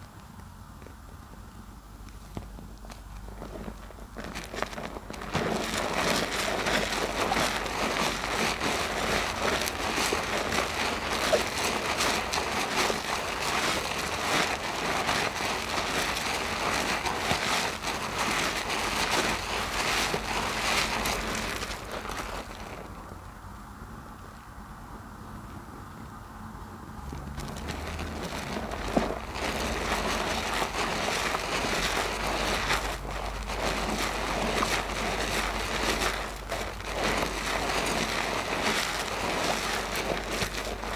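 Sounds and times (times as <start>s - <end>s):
soap suds crackling: 2.1s - 23.4s, 27.0s - 40.9s.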